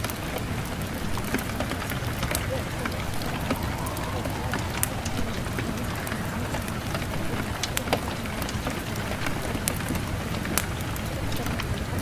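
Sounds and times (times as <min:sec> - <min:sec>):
raindrop ticks: 0:00.0 - 0:12.0
steady rain falling: 0:00.0 - 0:12.0.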